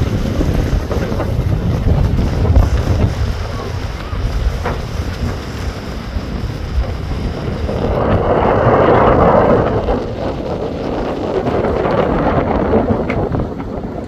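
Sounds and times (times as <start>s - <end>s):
rush of sea water: 0.0s - 14.0s
wind buffeting microphone: 0.0s - 14.0s.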